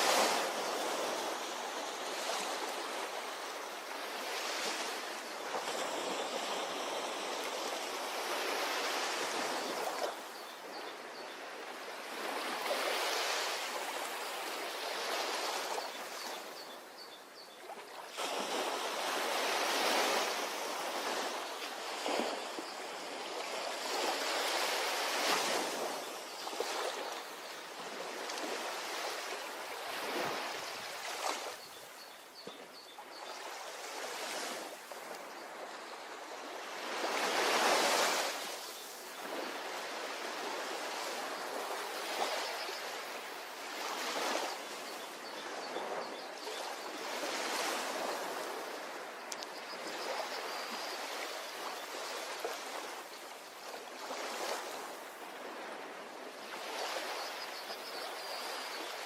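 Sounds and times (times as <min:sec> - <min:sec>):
sea waves breaking on beach: 0:00.0 - 0:17.1, 0:17.7 - 0:59.0.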